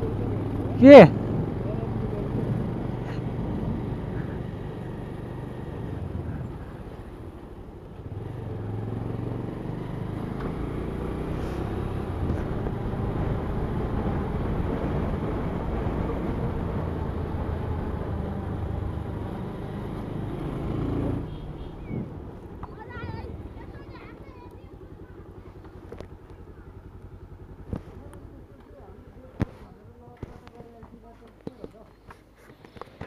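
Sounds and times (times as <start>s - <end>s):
motorcycle engine running: 0.0s - 30.8s
road and air noise: 0.0s - 33.0s.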